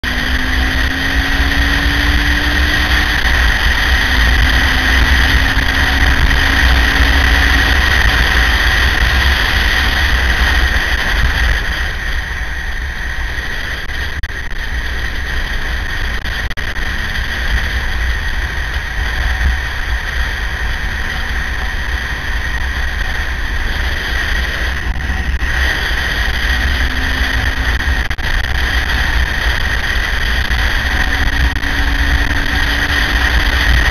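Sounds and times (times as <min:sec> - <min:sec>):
motorcycle engine accelerating: 0:00.0 - 0:33.9
wind buffeting on microphone: 0:00.1 - 0:33.9.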